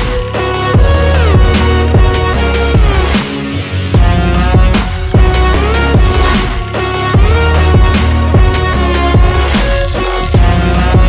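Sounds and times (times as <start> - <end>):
dubstep music with heavy bass: 0.0 - 11.0.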